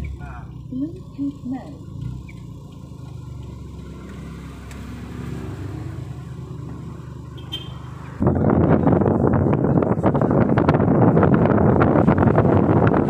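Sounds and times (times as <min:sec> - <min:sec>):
vehicle engine low hum: 0:00.0 - 0:13.0.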